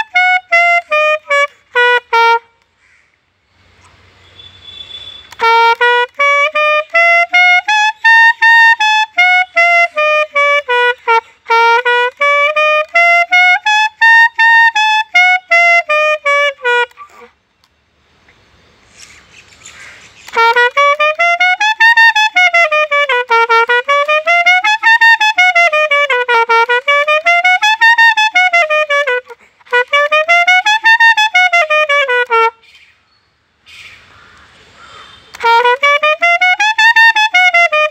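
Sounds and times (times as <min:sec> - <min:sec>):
solo clarinet melody: 0:00.0 - 0:02.6, 0:04.4 - 0:17.4, 0:20.3 - 0:32.7, 0:35.3 - 0:37.9.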